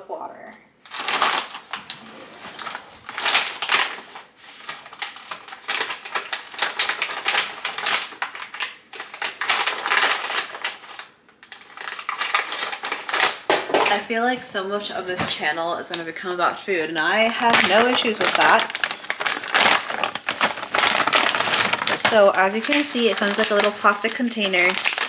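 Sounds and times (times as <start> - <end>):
plastic packet rustling: 0.9 - 25.0.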